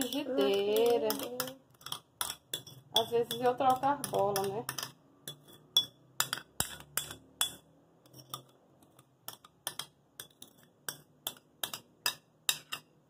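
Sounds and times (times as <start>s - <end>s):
metal spoon clinking on glass bowl: 0.0s - 12.9s.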